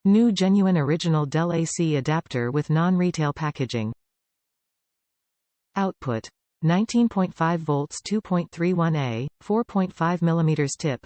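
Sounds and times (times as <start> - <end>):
text-to-speech voice speaking: 0.0 - 4.0, 5.8 - 11.0.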